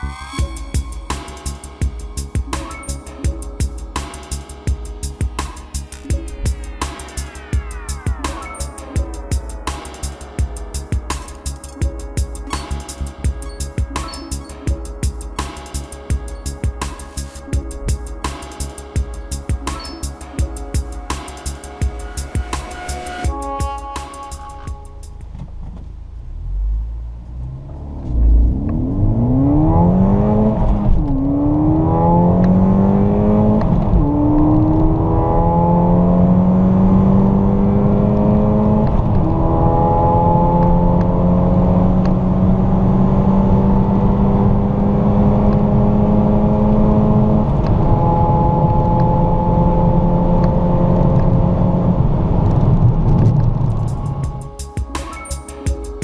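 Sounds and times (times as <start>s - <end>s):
car engine accelerating: 0.0s - 54.5s.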